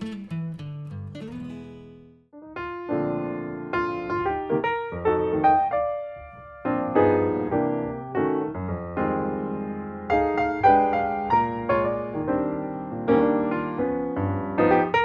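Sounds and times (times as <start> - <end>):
piano chords ringing: 2.4 - 15.0.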